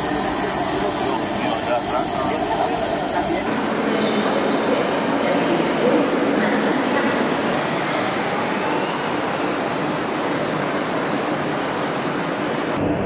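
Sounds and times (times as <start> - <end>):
railway station hall rushing noise: 0.0 - 13.0.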